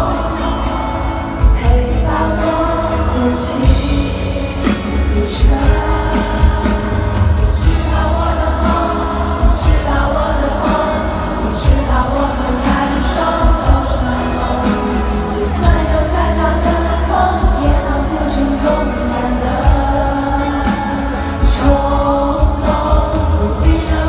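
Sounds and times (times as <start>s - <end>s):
live pop ballad: 0.0s - 24.0s
woman singing into microphone: 0.0s - 24.0s.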